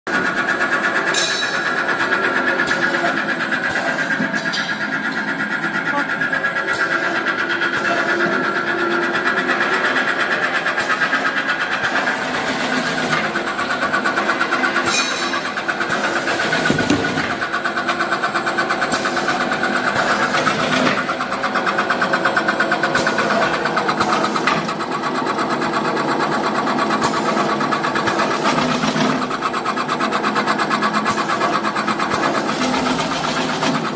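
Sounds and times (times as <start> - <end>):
slicing machine chattering: 0.1 - 33.9.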